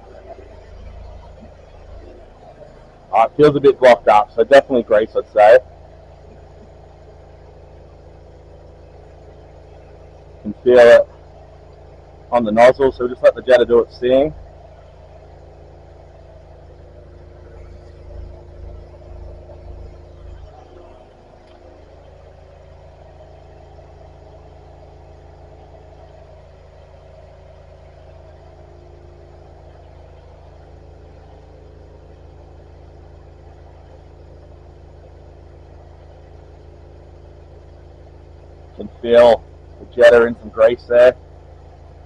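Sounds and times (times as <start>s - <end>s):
engine and pump running: 0.0s - 42.0s.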